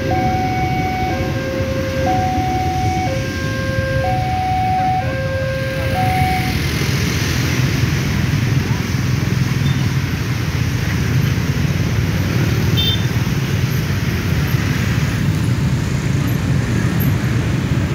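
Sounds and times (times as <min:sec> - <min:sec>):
rumble of many small engines: 0:00.0 - 0:17.9.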